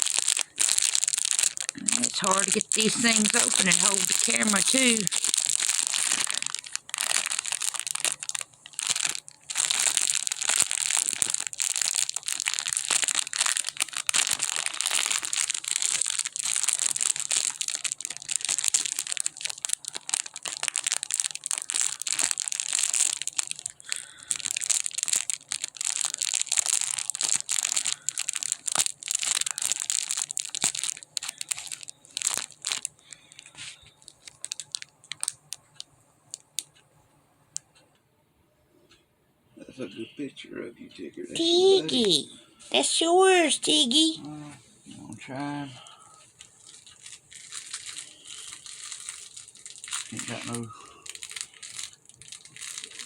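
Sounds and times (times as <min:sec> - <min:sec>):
packaging crinkling and tearing: 0:00.0 - 0:36.7, 0:46.2 - 0:53.0.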